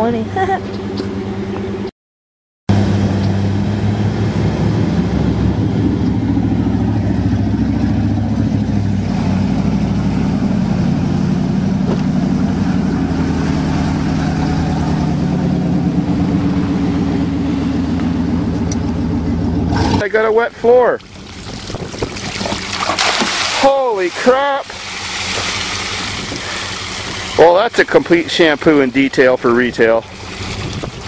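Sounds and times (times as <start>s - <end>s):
truck engine running under load: 2.7s - 22.9s, 23.9s - 31.0s.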